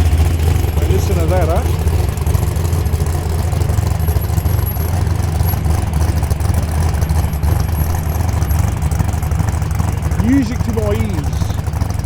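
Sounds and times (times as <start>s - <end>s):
car engine idling loudly: 0.0s - 12.0s.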